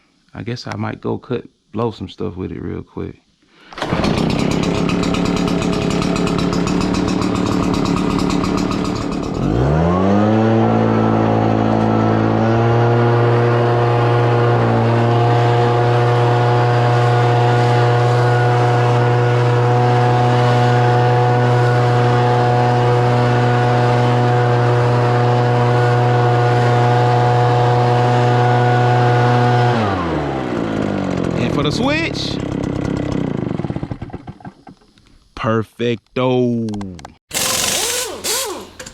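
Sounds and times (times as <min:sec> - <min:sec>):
leaf blower engine running: 0:03.7 - 0:34.7, 0:37.3 - 0:38.9.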